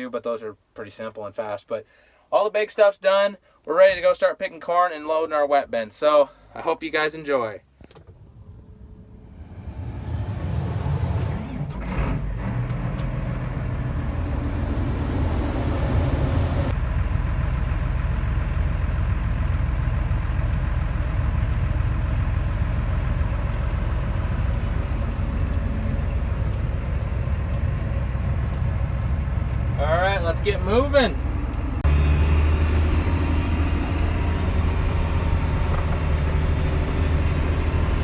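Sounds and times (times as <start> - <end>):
diesel engine rumbling: 6.3 - 38.0.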